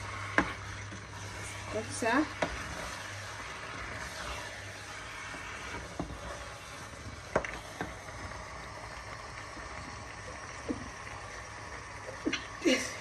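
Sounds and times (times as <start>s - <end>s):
wooden spoon stirring in metal pot: 0.0s - 12.8s.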